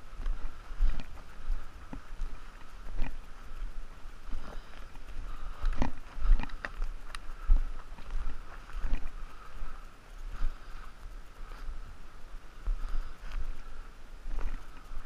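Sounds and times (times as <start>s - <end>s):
footsteps rustling through heather: 0.0s - 15.0s
low microphone rumble: 0.0s - 15.0s.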